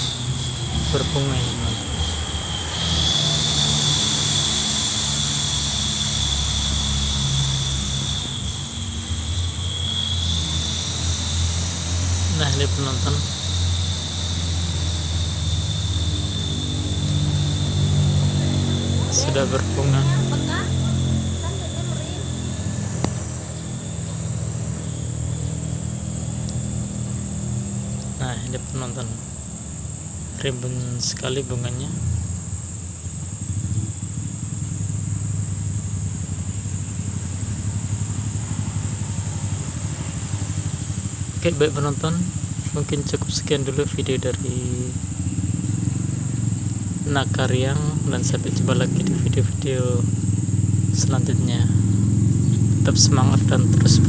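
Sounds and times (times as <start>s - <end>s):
crickets chirring: 0.0s - 54.0s
insects trilling: 0.0s - 54.0s
low engine drone: 0.0s - 54.0s.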